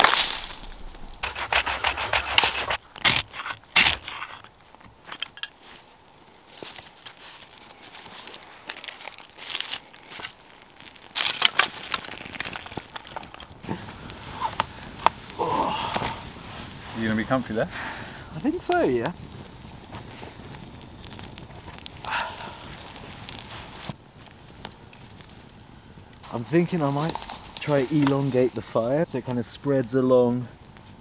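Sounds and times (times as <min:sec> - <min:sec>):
bark and twigs crinkling and snapping: 0:00.0 - 0:31.0
faint fire crackling: 0:00.0 - 0:31.0.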